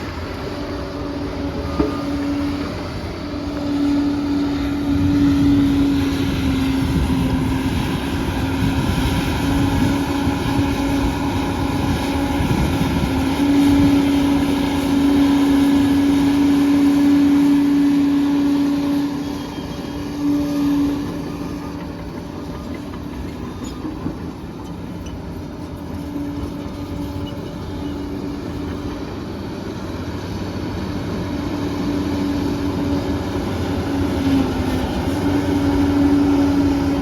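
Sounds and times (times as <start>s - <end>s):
bulldozer diesel engine whine: 0.0s - 37.0s.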